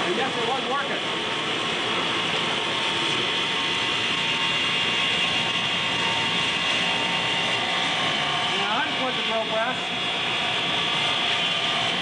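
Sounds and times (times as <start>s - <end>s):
motor-generator high whine: 0.0s - 12.0s.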